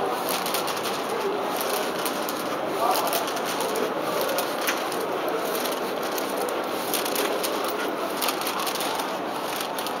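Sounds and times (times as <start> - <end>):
urban background noise: 0.0 - 10.0.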